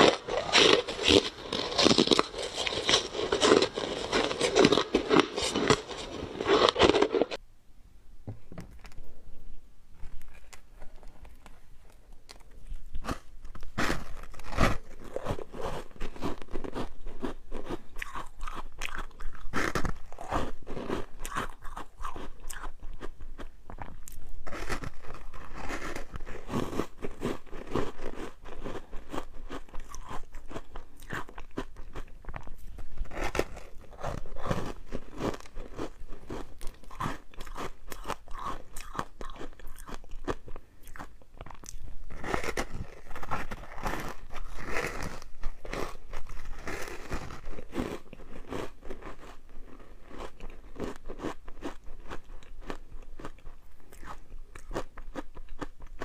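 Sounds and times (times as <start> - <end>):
ice being chewed: 0.0 - 7.4, 10.0 - 56.0.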